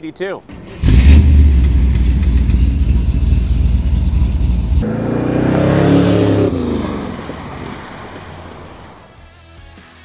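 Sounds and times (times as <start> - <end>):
car engine rumbling and revving: 0.5 - 9.2.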